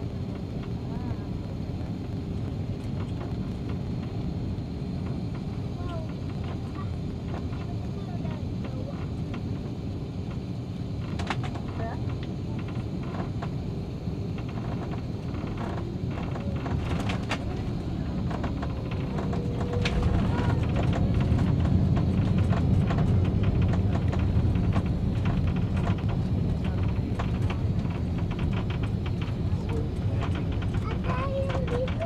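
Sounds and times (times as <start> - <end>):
airplane cabin roar: 0.0 - 32.0.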